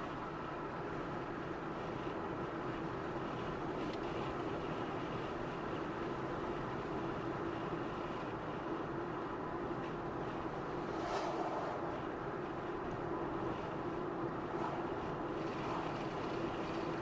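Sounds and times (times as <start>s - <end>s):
tyre and road noise: 0.0s - 17.0s.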